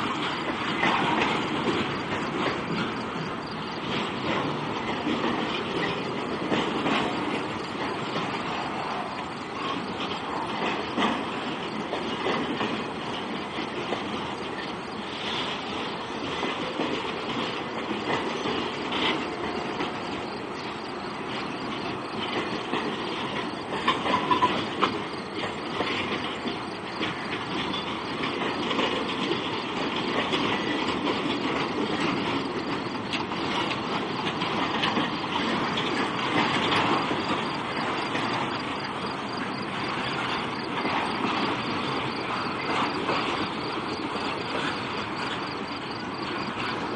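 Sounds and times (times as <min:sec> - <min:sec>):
clatter over rail joints: 0:00.0 - 0:46.9
freight train wheels rumbling: 0:00.0 - 0:46.9.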